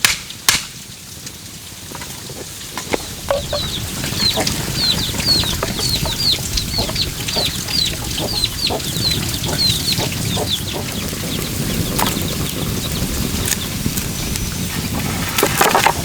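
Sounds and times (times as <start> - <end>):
chicks peeping: 2.1 - 16.0.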